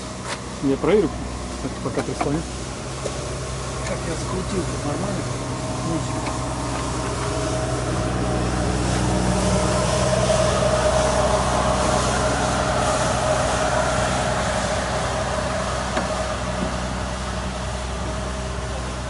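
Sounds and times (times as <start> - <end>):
mechanical hum with held tone: 0.0 - 19.0.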